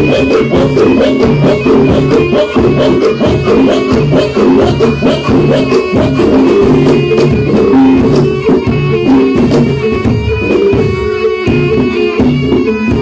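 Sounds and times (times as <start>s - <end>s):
pitched repeating melody: 0.0s - 13.0s
quick drum strokes: 0.0s - 13.0s.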